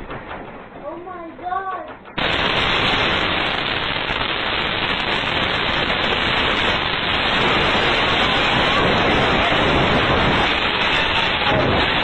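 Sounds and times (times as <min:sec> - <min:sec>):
loud static hiss: 0:02.1 - 0:12.0.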